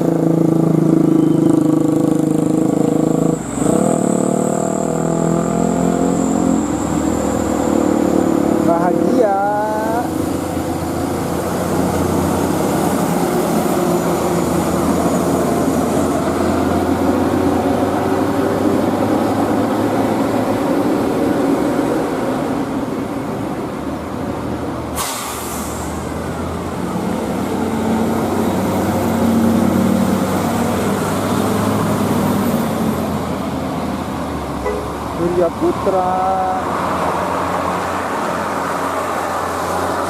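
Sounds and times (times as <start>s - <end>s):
bus engine running: 0.0s - 40.0s
road and traffic noise: 0.0s - 40.0s.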